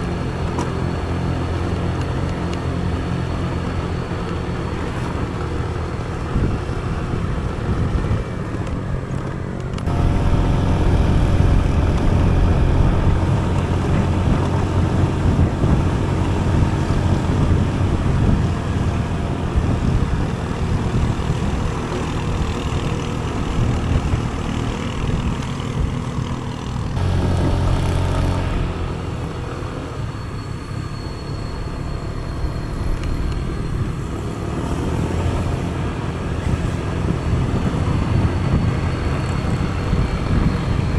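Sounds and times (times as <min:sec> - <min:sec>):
road and wind noise: 0:00.0 - 0:40.9
vehicle engine running: 0:00.0 - 0:40.9.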